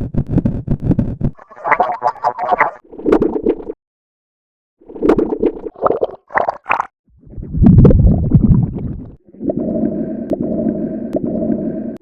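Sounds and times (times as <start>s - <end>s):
stomach growling: 0.0s - 3.6s, 4.9s - 12.0s.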